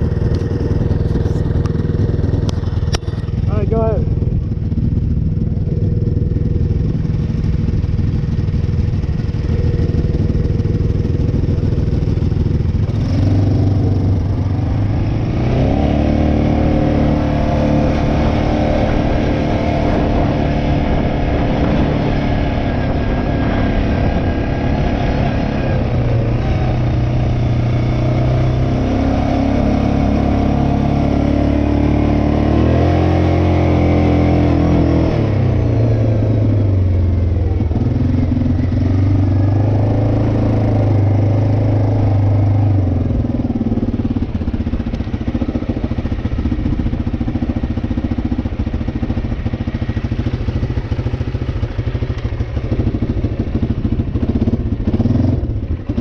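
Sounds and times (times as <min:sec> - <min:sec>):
atv engine idling and revving: 0:00.0 - 0:56.0.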